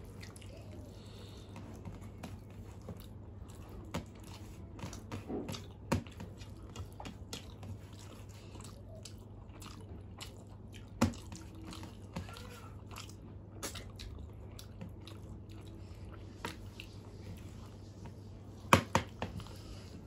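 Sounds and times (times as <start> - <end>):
people chewing: 0.0 - 20.0
steady low hum: 0.0 - 20.0.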